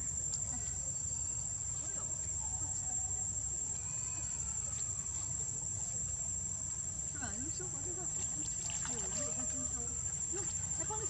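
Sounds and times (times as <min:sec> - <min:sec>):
faint distant calls: 0:00.0 - 0:11.0
insects droning: 0:00.0 - 0:11.0.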